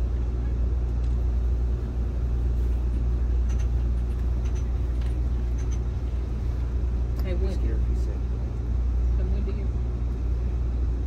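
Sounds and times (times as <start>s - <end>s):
train car rumble and hum: 0.0s - 11.0s.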